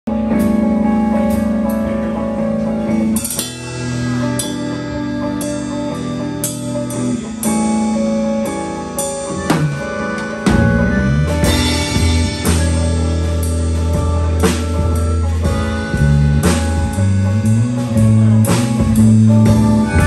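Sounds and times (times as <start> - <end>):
electric guitars sustained chords: 0.1 - 20.0
drum and cymbal accents: 3.0 - 20.0.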